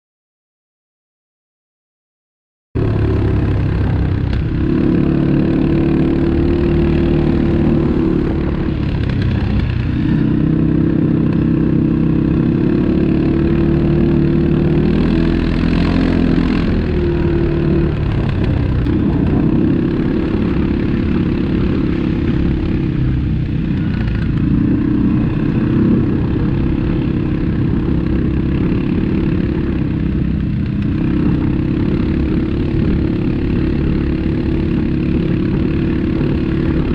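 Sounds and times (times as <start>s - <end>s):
atv engine running: 2.8s - 36.9s.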